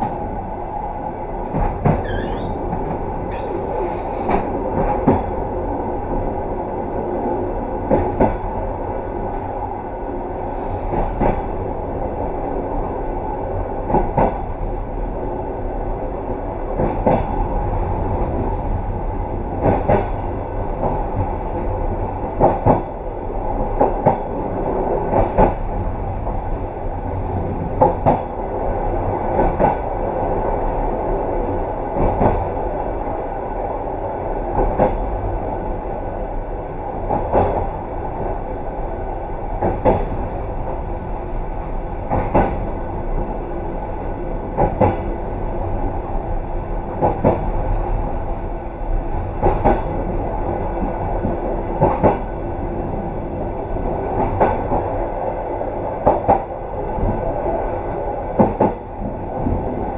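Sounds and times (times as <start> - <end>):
train rumbling on track: 0.0 - 59.9.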